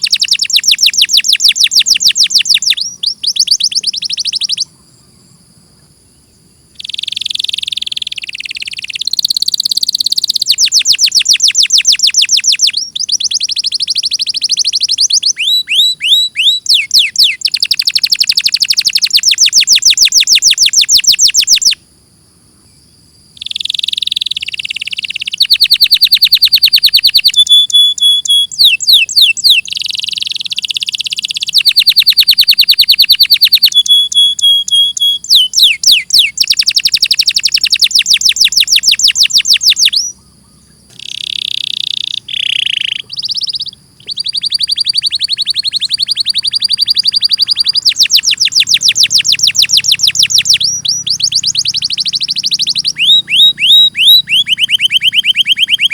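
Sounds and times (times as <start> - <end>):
canary singing trills: 0.0 - 21.8, 22.6 - 55.9.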